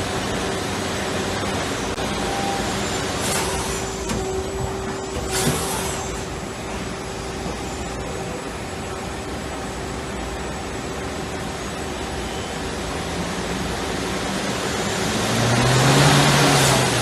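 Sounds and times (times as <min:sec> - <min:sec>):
lathe machine hum and hiss: 0:00.0 - 0:17.0.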